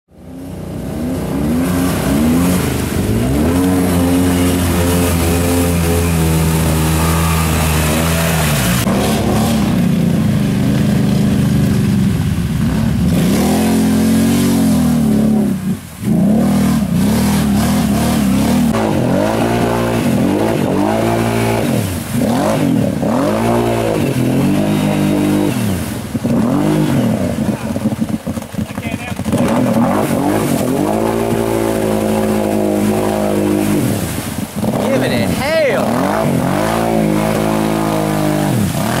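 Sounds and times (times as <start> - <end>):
atv engines revving in mud: 0.1 - 39.0.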